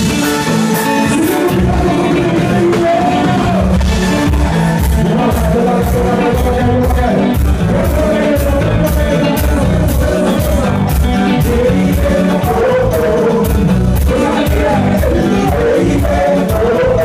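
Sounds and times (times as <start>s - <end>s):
live dance band playing: 0.0s - 17.0s
man singing: 0.0s - 17.0s.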